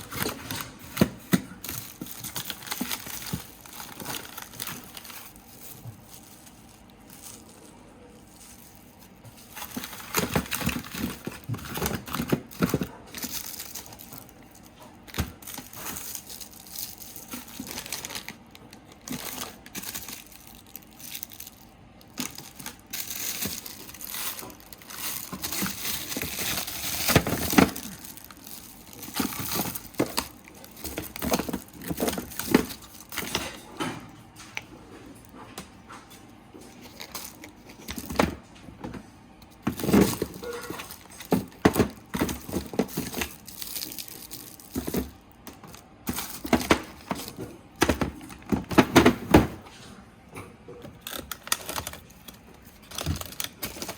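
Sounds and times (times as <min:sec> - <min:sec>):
plastic packaging crinkling: 0:00.0 - 0:33.8, 0:36.6 - 0:38.6, 0:39.4 - 0:49.8, 0:50.7 - 0:53.9.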